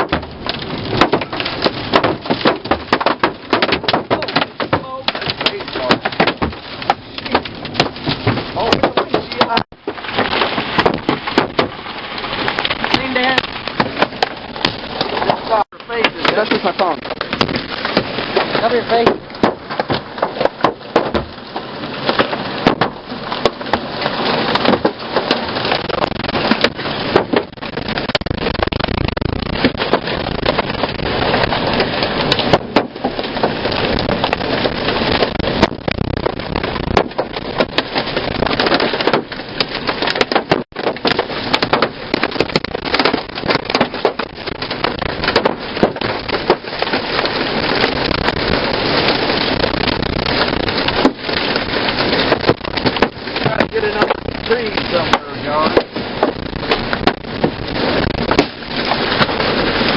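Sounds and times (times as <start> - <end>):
hail pelting a car: 0.0 - 59.9
wind and rain rushing: 0.0 - 59.9.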